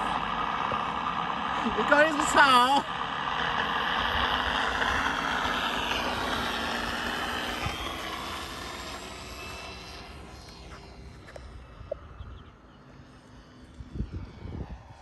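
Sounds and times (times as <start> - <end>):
model plane motor and propeller: 0.0 - 15.0.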